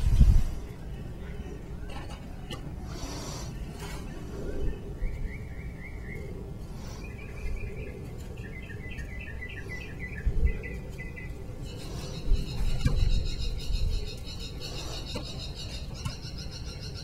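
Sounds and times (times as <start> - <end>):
songbird chirping: 0.2 - 17.0.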